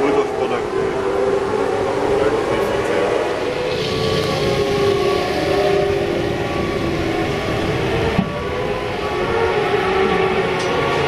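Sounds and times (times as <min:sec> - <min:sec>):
distant racing motorcycle engines: 0:00.3 - 0:11.0.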